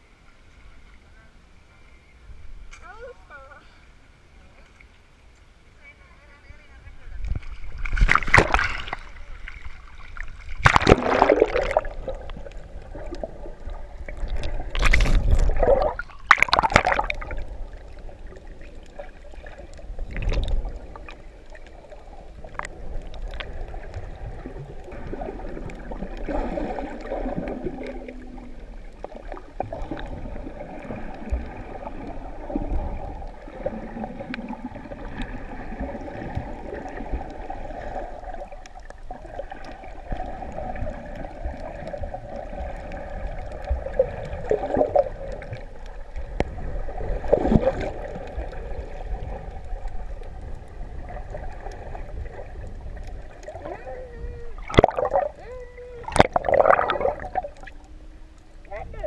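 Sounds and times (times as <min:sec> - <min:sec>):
water splashing: 0:06.6 - 0:59.0
muffled underwater gurgling: 0:10.6 - 0:59.0.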